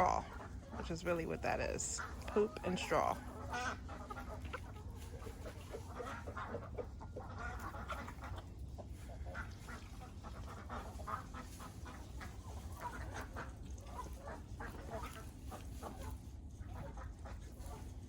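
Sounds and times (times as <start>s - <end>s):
ducks quacking: 0.0s - 18.0s.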